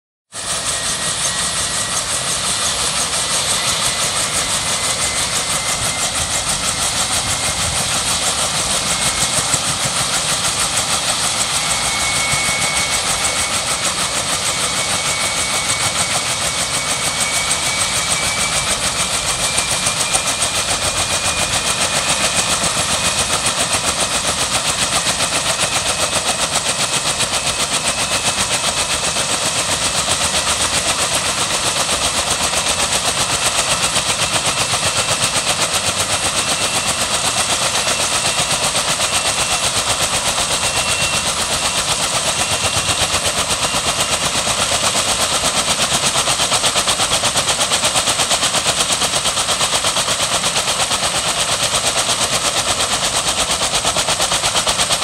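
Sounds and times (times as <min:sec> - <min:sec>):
helicopter rotors beating: 0:00.3 - 0:55.0
helicopter turbine engine whine: 0:00.3 - 0:55.0.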